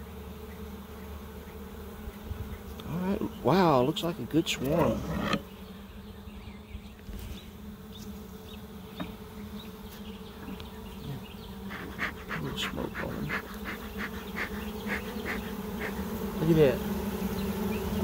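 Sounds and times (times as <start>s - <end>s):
bees humming: 0.0s - 18.0s.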